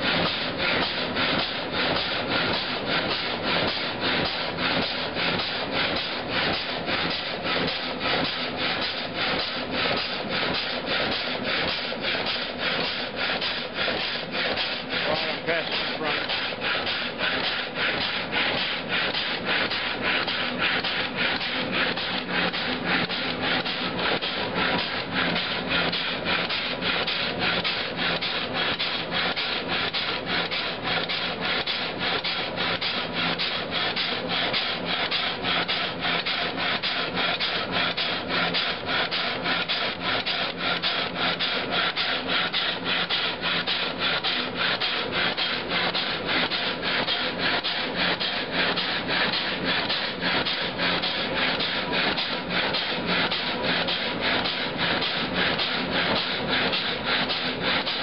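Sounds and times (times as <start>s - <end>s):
saw blade rasping through wood: 0.0s - 58.0s.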